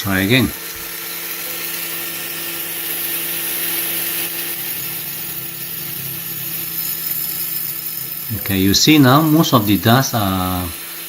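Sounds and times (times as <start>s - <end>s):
angle grinder cutting concrete: 0.0s - 11.0s
vacuum cleaner running: 0.0s - 11.0s.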